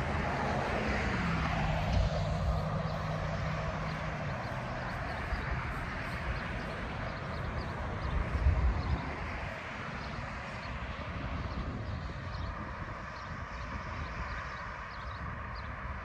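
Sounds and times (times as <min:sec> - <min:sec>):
faint engine hum: 0:00.0 - 0:16.0
tyre noise of passing traffic: 0:00.0 - 0:16.0
wind rumbling on microphone: 0:00.0 - 0:16.0.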